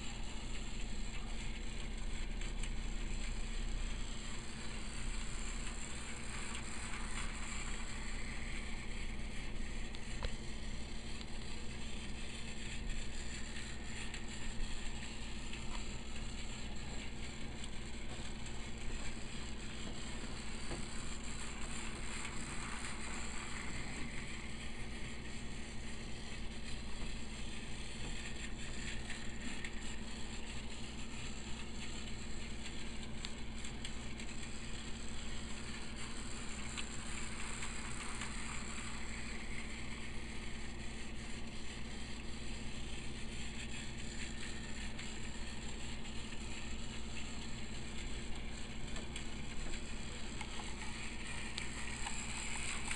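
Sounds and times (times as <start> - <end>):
toy train gearbox whirr: 0.0 - 52.9.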